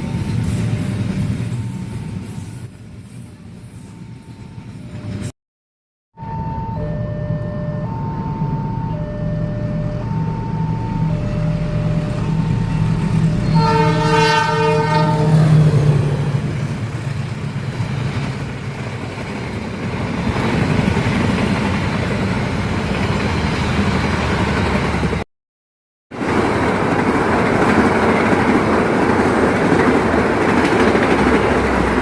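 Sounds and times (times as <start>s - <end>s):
train wheels rumbling and rattling: 0.0s - 5.3s, 10.0s - 25.2s, 26.2s - 32.0s.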